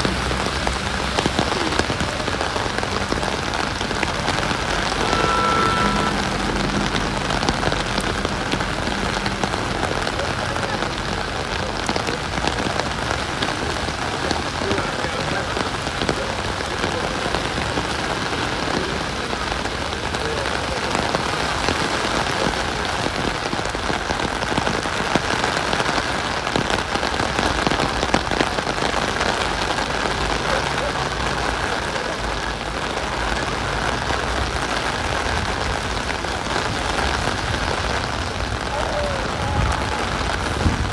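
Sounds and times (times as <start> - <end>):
heavy rain hissing: 0.0 - 40.9
raindrops ticking on surfaces: 0.0 - 40.9.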